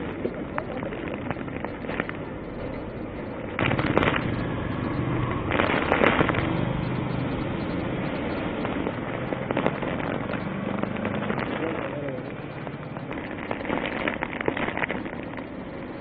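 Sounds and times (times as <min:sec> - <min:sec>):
wind and heavy rain: 0:00.0 - 0:16.0
wind buffeting microphone: 0:00.0 - 0:16.0.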